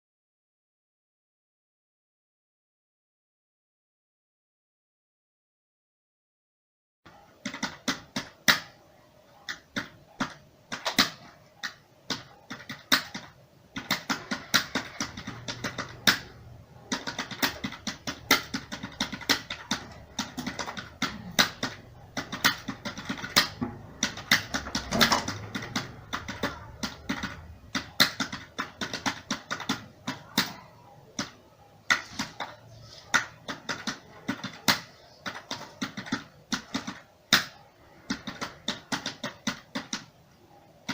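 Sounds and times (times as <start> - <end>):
computer keyboard typing: 7.1 - 40.9.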